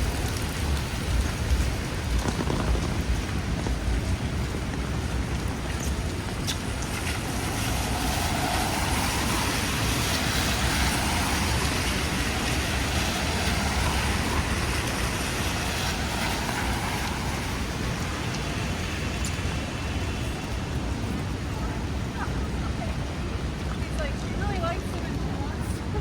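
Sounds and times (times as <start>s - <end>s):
rain hiss: 0.0s - 26.0s
road noise: 0.0s - 26.0s
vehicle passing on wet road: 0.0s - 26.0s.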